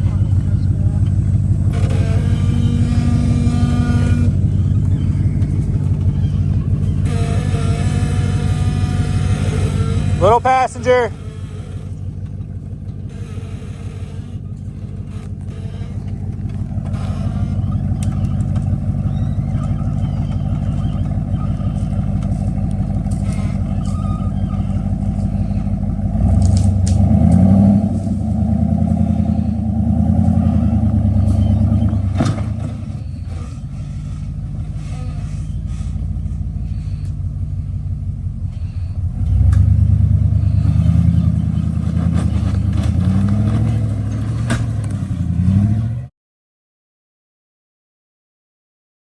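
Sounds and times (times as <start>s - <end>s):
off-road vehicle engine revving: 0.0s - 46.1s.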